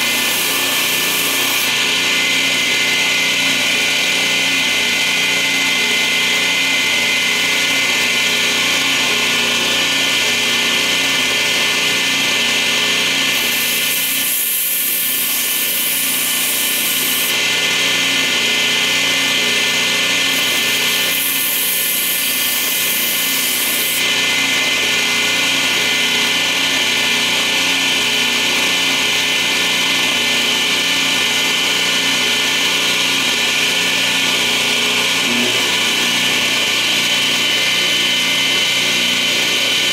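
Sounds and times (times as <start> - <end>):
power tool motor grinding metal: 0.0 - 9.8, 12.0 - 27.2, 31.0 - 39.9.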